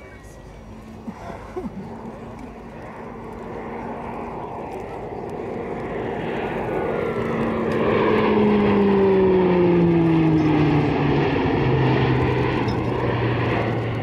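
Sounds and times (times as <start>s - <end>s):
propeller aircraft passing by: 0.0s - 14.0s.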